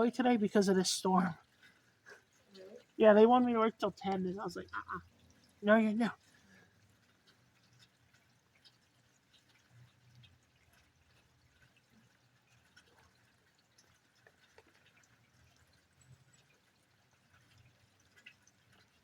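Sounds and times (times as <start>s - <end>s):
rainwater dripping: 0.0s - 19.0s.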